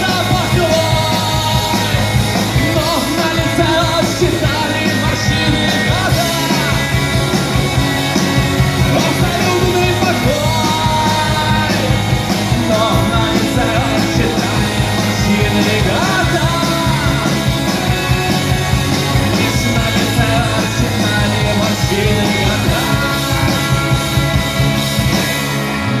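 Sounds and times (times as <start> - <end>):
rock music: 0.0 - 26.0.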